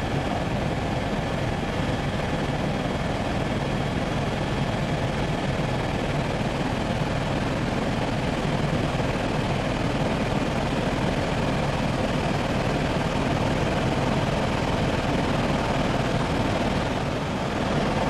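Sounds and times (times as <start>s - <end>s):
helicopter engine and rotor noise: 0.0s - 18.0s.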